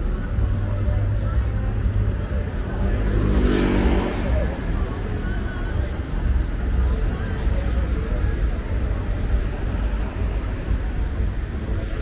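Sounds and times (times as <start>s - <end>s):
faint voices of passersby: 0.0s - 12.0s
traffic rumble: 0.0s - 12.0s.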